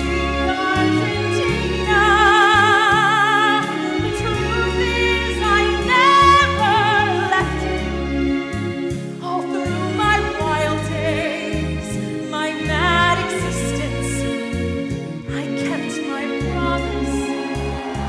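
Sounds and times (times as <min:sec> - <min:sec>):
instrumental accompaniment with bass: 0:00.0 - 0:18.0
woman singing with vibrato: 0:00.4 - 0:07.9, 0:09.2 - 0:14.6, 0:15.3 - 0:18.0.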